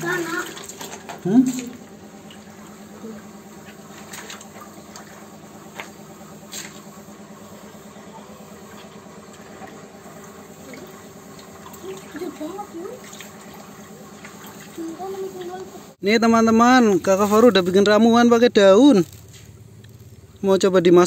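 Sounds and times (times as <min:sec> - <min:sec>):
stream water trickling: 0:00.0 - 0:16.0, 0:18.8 - 0:20.6
steady low hum: 0:00.0 - 0:21.0.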